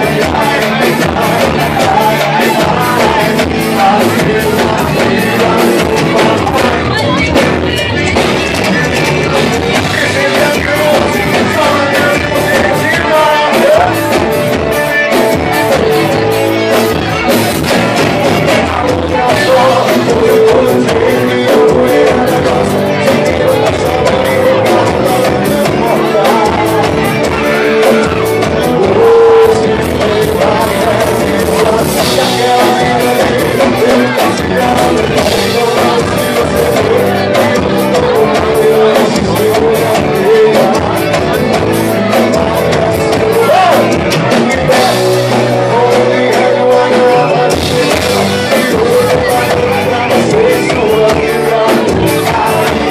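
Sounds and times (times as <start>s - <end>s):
guitar: 0.0s - 52.9s
live band playing country song: 0.0s - 52.9s
person singing: 0.0s - 52.9s
steady drum beat: 0.0s - 52.9s.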